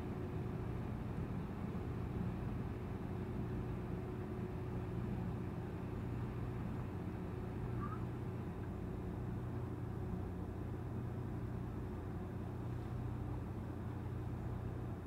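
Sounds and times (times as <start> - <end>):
boat engine drone: 0.1 - 15.0.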